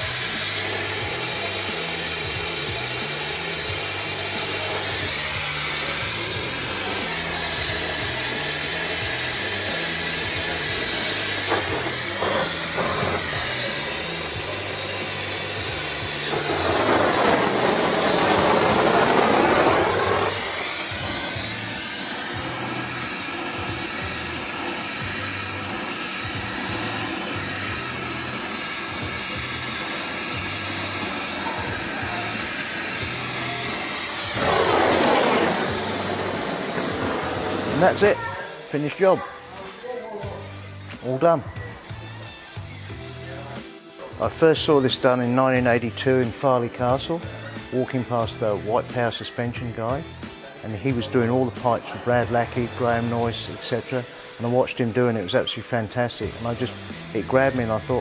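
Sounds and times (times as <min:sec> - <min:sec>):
background music: 0:00.0 - 0:58.0
torch flame hissing: 0:00.0 - 0:58.0.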